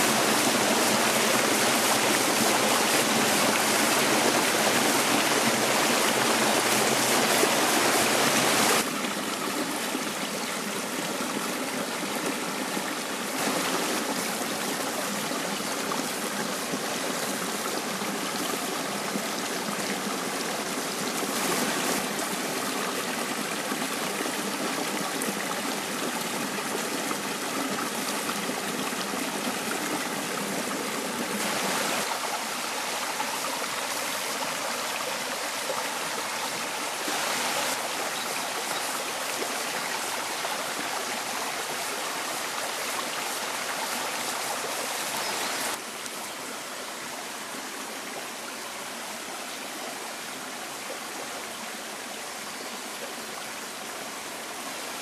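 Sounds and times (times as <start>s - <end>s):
stream splashing over rocks: 0.0s - 55.0s.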